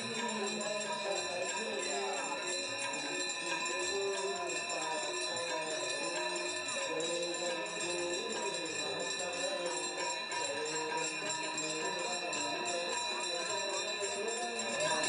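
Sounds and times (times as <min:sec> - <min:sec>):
bells ringing: 0:00.0 - 0:15.0
people singing devotional song: 0:00.0 - 0:15.0.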